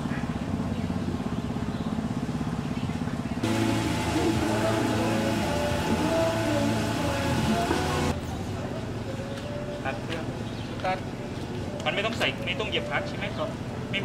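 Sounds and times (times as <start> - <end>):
small petrol engine idling: 0.0 - 14.0.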